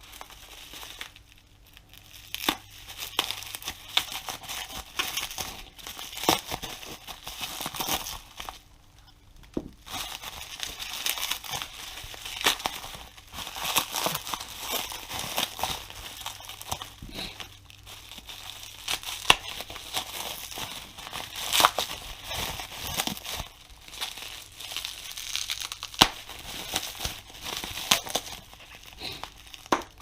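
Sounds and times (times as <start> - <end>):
bubble wrap crinkling and tearing: 0.0 - 30.0.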